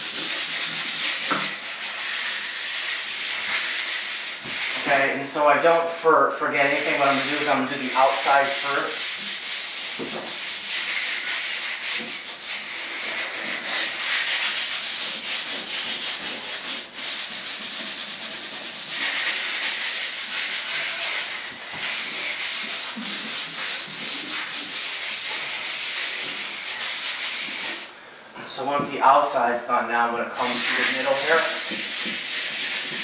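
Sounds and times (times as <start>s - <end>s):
sandpaper scratching by hand: 0.0s - 5.1s, 6.6s - 27.9s, 30.4s - 33.0s.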